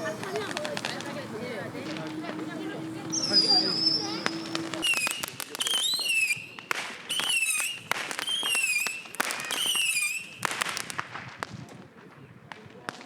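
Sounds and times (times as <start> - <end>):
shrill firework whistles: 0.0 - 10.7
firework crackling pops: 0.0 - 13.0.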